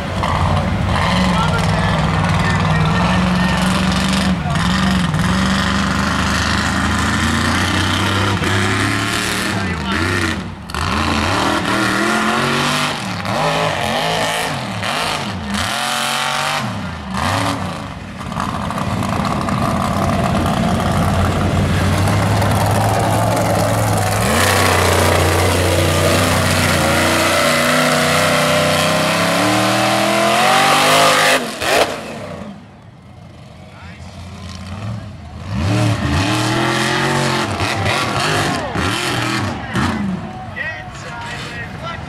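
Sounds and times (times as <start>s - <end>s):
truck engine revving: 0.0s - 42.0s.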